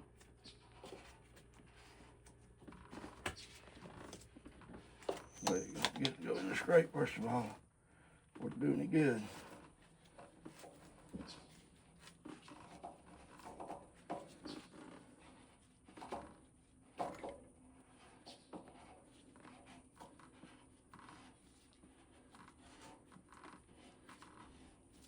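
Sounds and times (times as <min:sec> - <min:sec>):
faint taps and scrapes: 0:00.1 - 0:07.6, 0:08.3 - 0:25.0.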